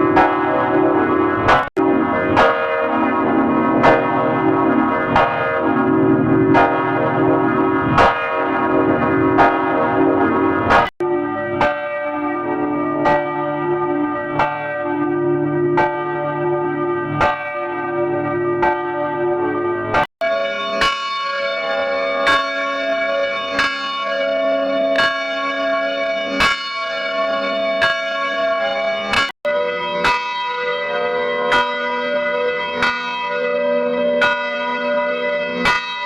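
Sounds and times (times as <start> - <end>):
church bells tolling: 0.0 - 36.0.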